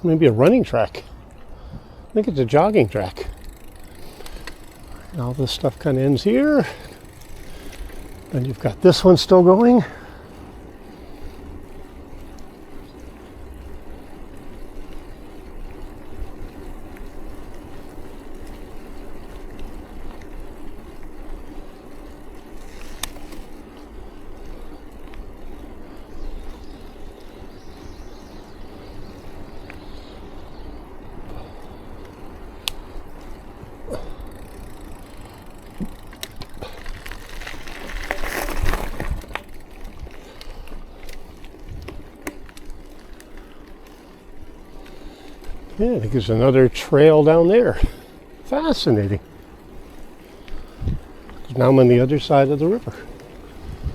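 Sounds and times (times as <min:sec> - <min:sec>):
bicycle rolling rumble: 0:00.0 - 0:53.9.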